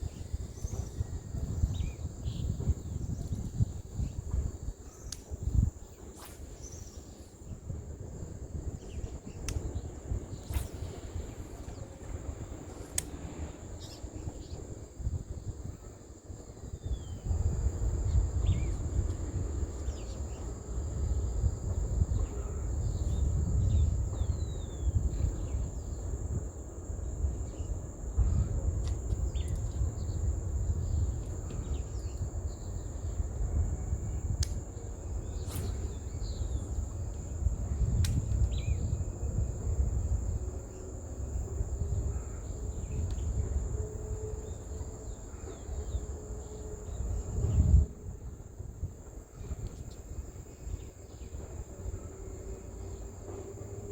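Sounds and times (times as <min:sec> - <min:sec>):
insect droning: 0:00.0 - 0:53.9
wind buffeting the microphone: 0:00.0 - 0:53.9.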